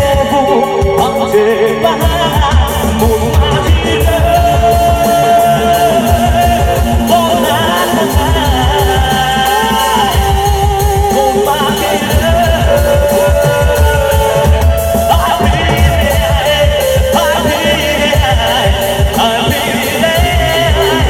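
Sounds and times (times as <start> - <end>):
live band music through a pa: 0.0 - 21.0.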